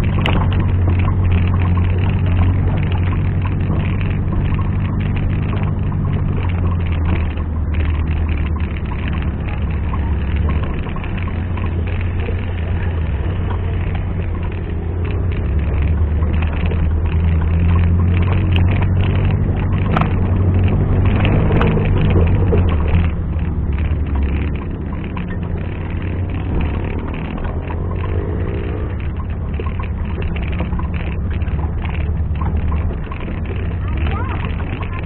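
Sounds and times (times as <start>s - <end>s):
off-road vehicle engine idling: 0.0s - 35.0s.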